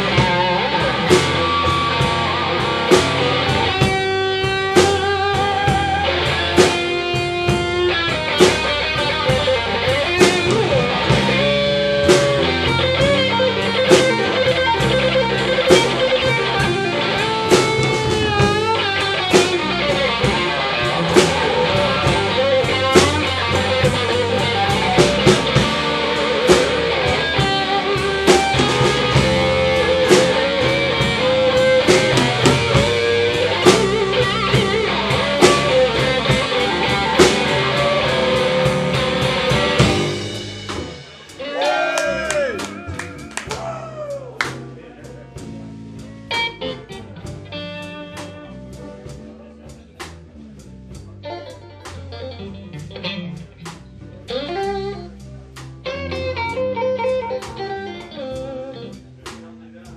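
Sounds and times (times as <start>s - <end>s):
drum hits: 0.0s - 49.2s
lead guitar bent notes: 0.0s - 49.3s, 50.0s - 59.6s
slow blues instrumental: 0.0s - 59.9s.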